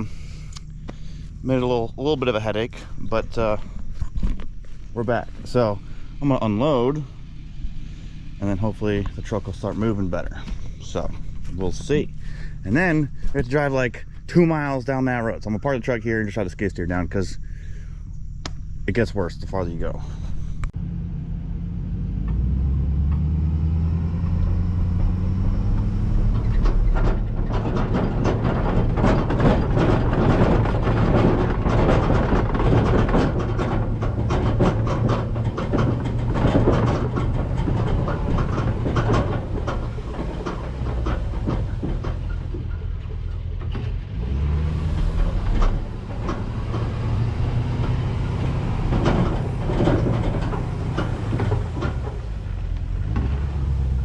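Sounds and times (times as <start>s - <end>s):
metallic clanking and rattling: 0.0s - 20.7s, 24.3s - 54.0s
diesel engine revving: 0.0s - 54.0s.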